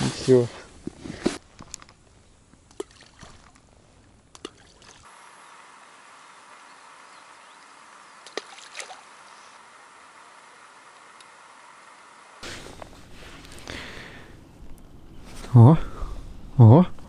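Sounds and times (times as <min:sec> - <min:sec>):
faint outdoor background: 0:00.0 - 0:17.0.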